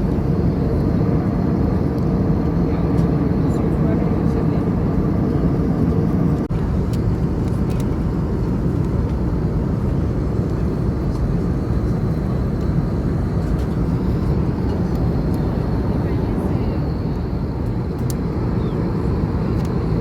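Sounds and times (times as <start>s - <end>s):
airplane cabin airflow rush: 0.0s - 20.0s
jet engine hum: 0.0s - 20.0s.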